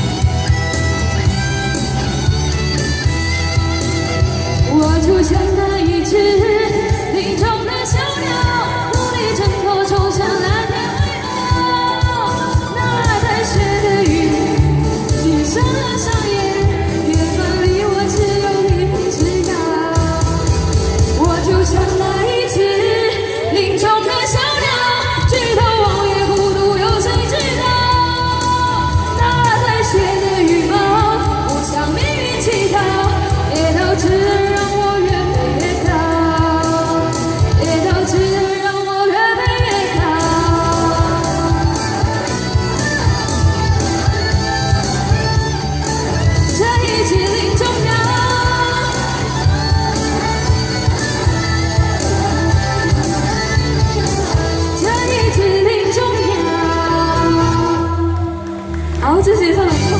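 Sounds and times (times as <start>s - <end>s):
backing track with steady beat: 0.0s - 59.9s.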